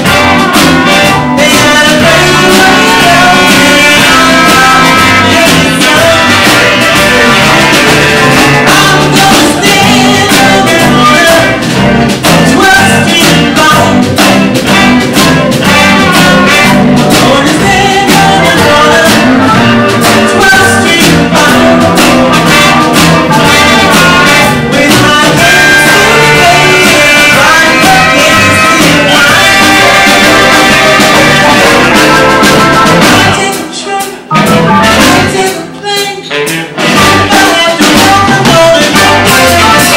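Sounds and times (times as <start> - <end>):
live band playing soul music: 0.0 - 39.9
person singing: 0.0 - 39.9.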